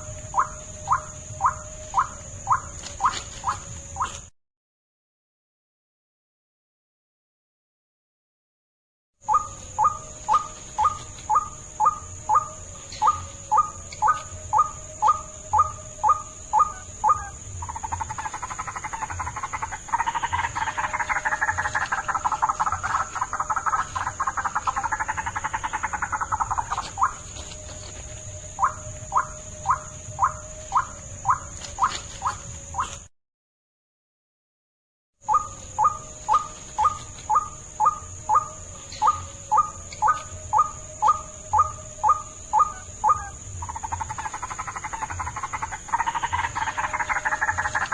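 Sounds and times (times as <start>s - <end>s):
waterhen croaking calls: 0.0s - 4.2s, 9.3s - 27.4s, 28.6s - 33.0s, 35.3s - 47.9s.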